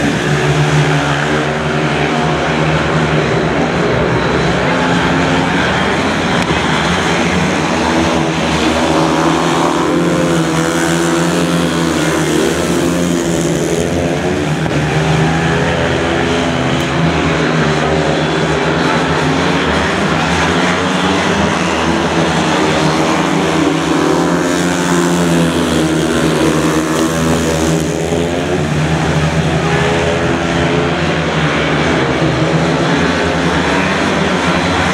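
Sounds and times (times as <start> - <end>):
motorbikes racing: 0.0 - 34.9.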